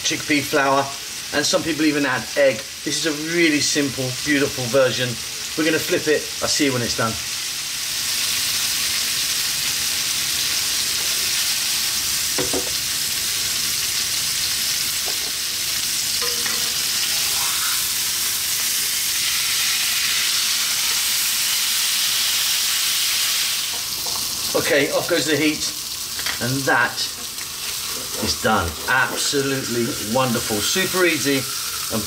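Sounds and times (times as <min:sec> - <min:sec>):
fish sizzling in oil: 0:00.0 - 0:32.0.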